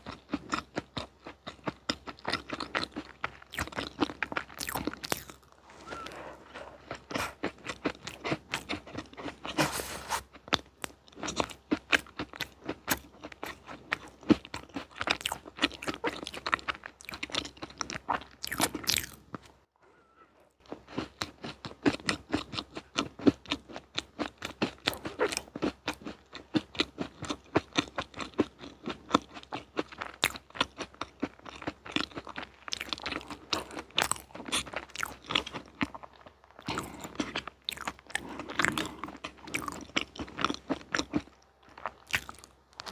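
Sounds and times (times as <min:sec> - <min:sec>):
person chewing crunchy sweets: 0:00.0 - 0:19.7, 0:20.6 - 0:42.9.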